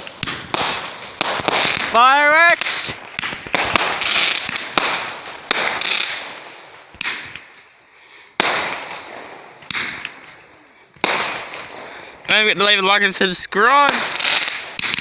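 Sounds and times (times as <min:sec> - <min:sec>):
fireworks bangs: 0:00.0 - 0:15.0
fireworks crackle and hiss: 0:00.0 - 0:15.0.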